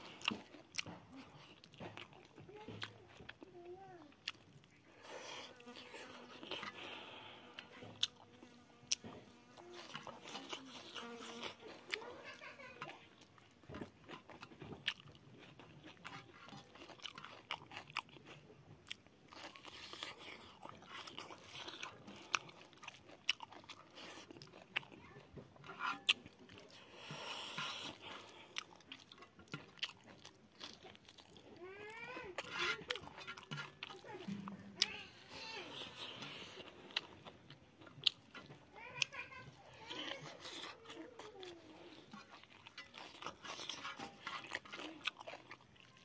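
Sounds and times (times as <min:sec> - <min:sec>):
person chewing food: 0:00.0 - 0:46.0.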